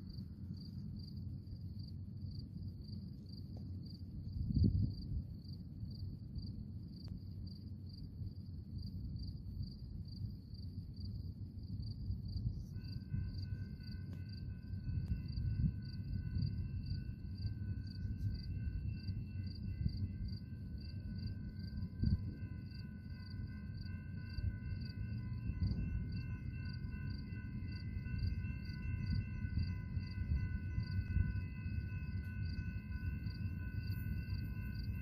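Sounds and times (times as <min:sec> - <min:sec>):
constant low rumble: 0:00.0 - 0:35.0
crickets chirping: 0:00.0 - 0:35.0.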